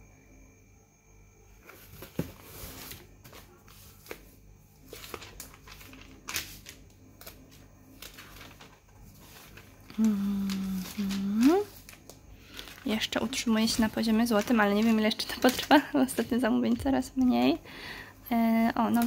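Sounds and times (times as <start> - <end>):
magazine pages rustling: 1.6 - 17.4.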